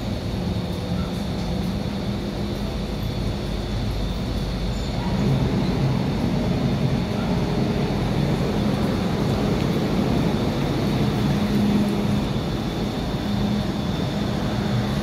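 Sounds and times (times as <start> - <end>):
train motors and wheels humming: 0.0 - 15.0.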